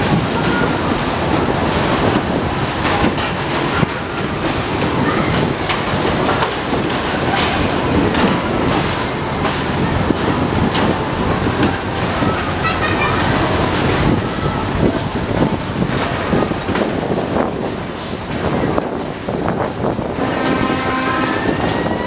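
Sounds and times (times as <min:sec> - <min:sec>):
ride machinery rumbling: 0:00.0 - 0:22.0.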